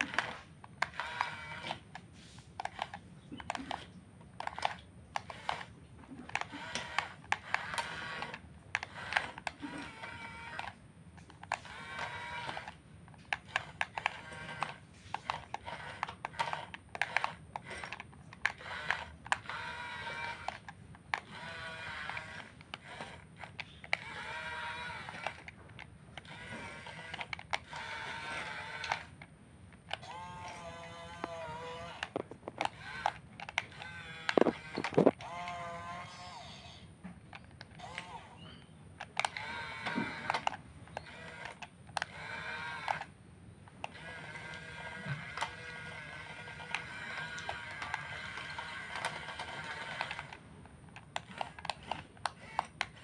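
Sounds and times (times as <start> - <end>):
small electric motors whining: 0.0 - 29.2, 29.8 - 53.0
sharp clicks: 0.0 - 35.6, 37.2 - 53.0.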